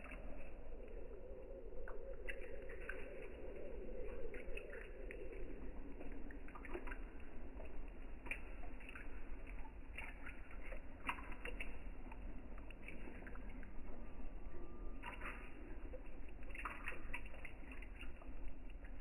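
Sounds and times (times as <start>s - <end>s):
water drips and splashes: 0.0s - 19.0s
water trickling: 0.0s - 19.0s.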